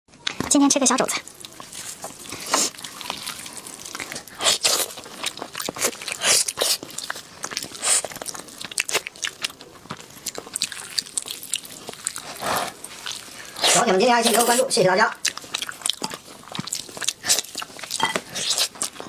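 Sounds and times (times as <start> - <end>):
person chewing noisily: 0.3 - 19.0.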